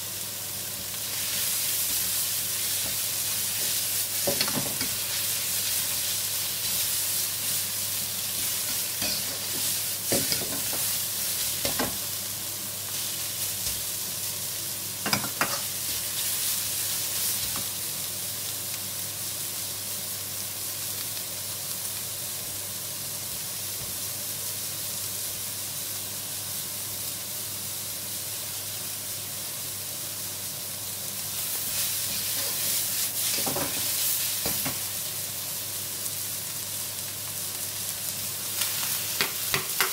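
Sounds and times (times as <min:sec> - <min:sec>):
vegetables sizzling in hot oil: 0:00.0 - 0:39.9.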